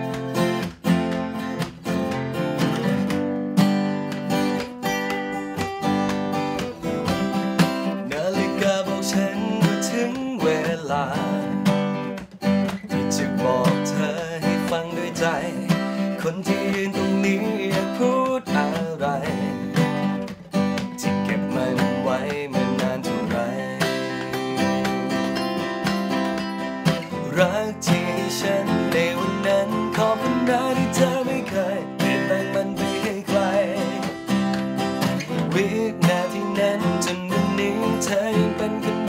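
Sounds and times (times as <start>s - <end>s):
acoustic guitar picking lead line: 0.0s - 39.0s
acoustic guitar strumming chords: 0.0s - 39.0s.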